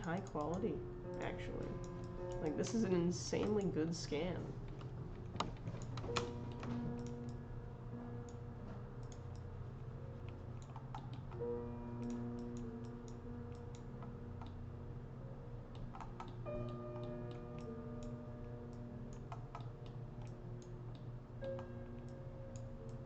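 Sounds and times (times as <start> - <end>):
calm background music: 0.0 - 23.0.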